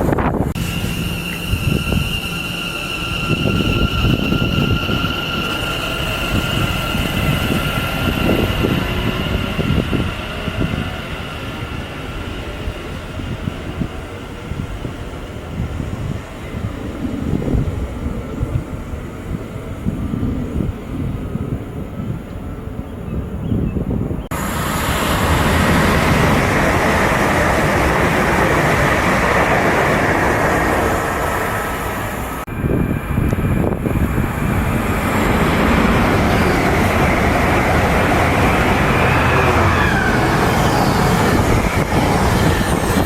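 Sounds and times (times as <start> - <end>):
train wheels rushing on rail: 0.0 - 21.6, 24.3 - 43.0
low train rumble: 0.0 - 43.0.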